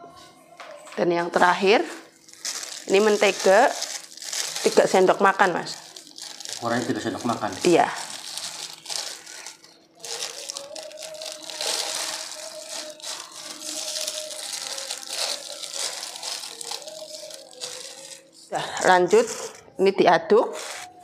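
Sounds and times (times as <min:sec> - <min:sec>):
plastic bag crinkling: 0:02.1 - 0:19.7, 0:20.5 - 0:21.0.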